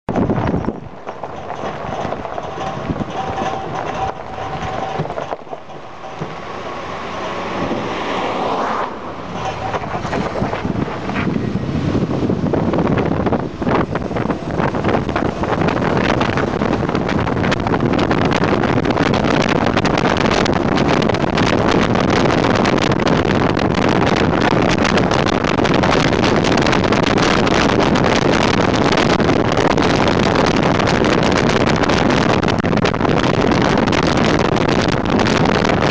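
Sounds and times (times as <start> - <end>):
tyre and road noise: 0.0 - 35.9
wind buffeting microphone: 0.1 - 35.9.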